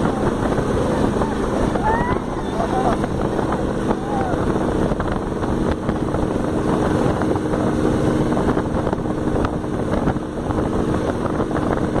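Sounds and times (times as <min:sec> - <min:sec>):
dune buggy engine running: 0:00.0 - 0:12.0
wind buffeting microphone: 0:00.0 - 0:12.0.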